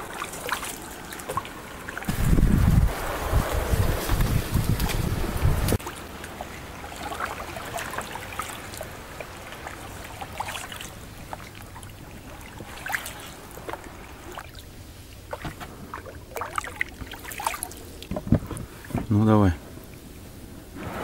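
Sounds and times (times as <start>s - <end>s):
oar pulling through water: 0.0s - 21.0s
water splashes and drips: 0.0s - 21.0s.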